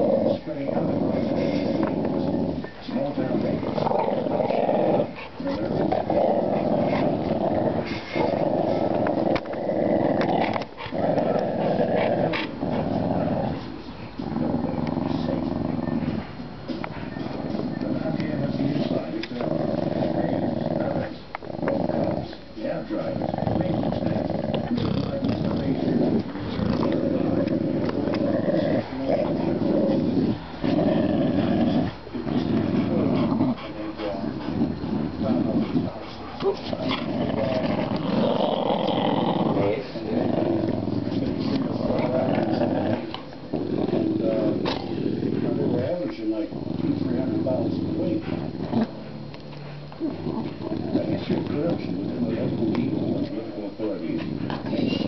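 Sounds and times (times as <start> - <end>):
dog growling: 0.0 - 49.3, 49.9 - 55.0.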